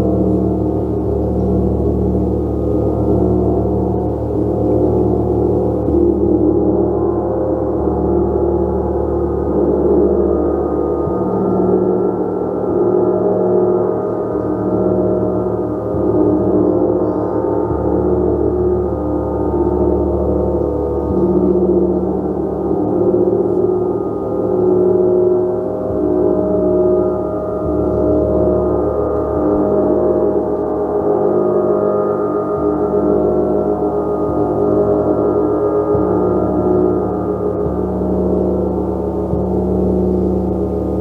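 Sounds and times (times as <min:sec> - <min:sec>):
gong sustained tones: 0:00.0 - 0:41.0.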